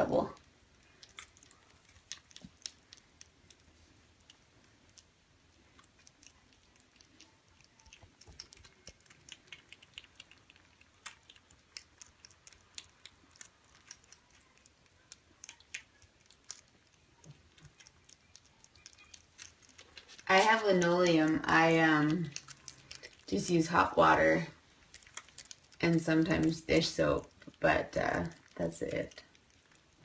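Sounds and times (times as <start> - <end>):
low room hiss: 0.0 - 30.0
faint small clicks and ticks: 0.3 - 20.9, 22.0 - 23.4, 24.8 - 27.6, 28.2 - 30.0.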